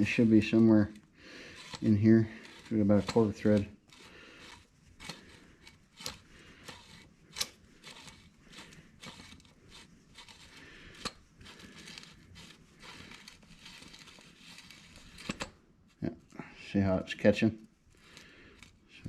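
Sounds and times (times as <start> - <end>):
metal scraping on threads: 0.0 - 15.6.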